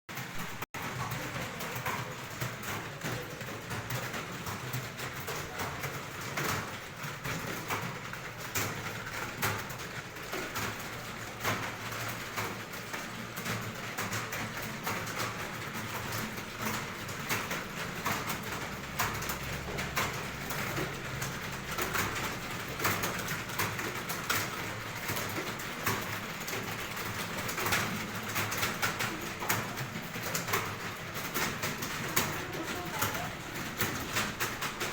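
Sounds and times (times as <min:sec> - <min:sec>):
keyboards clattering: 0:00.1 - 0:34.9.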